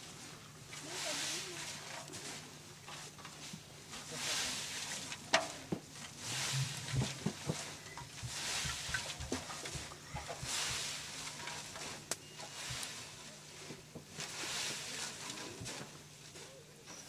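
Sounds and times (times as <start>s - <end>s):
leaves rustling in metal pot: 0.0s - 17.0s.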